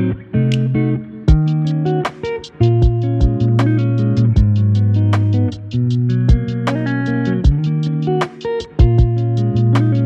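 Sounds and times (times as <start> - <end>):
bass: 0.0 - 8.2, 8.8 - 10.0
plucked guitar: 0.0 - 10.0
steady drum beat: 1.3 - 10.0.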